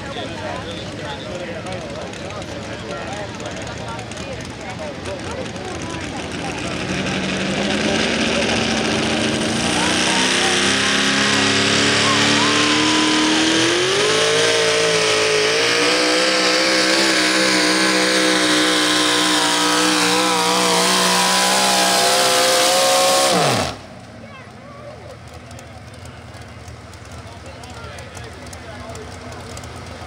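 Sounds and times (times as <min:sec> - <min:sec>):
truck engine at full throttle: 0:00.0 - 0:30.0.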